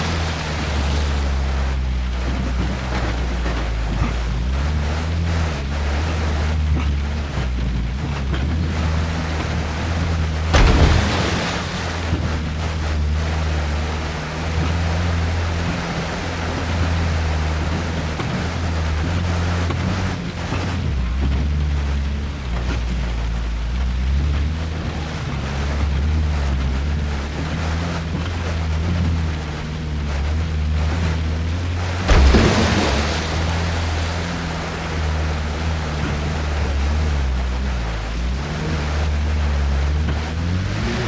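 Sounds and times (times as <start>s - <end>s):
splash or knock: 0.0s - 23.1s, 23.8s - 41.0s
off-road vehicle engine running: 0.0s - 41.0s
water and wind noise: 0.0s - 41.0s.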